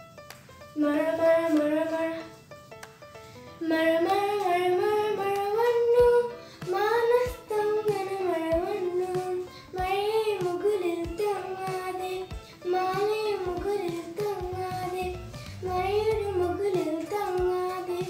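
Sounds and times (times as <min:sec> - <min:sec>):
girl singing: 0:00.8 - 0:02.4, 0:03.6 - 0:18.0.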